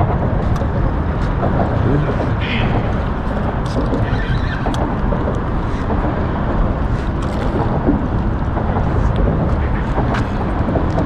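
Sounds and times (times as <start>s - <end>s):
water noise: 0.0s - 11.0s
wind rumbling on microphone: 0.0s - 11.0s.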